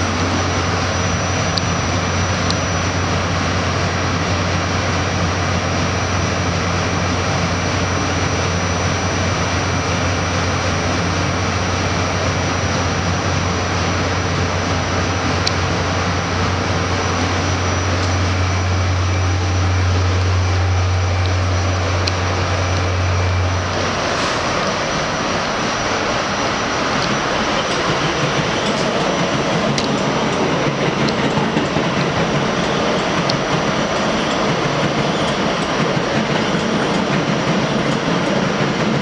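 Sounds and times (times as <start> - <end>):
subway wheels rumbling on rail: 0.0 - 39.0.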